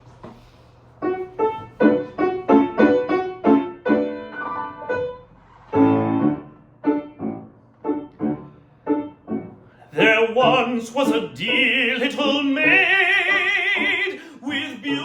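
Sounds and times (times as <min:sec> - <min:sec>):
solo piano chords: 0:00.9 - 0:15.0.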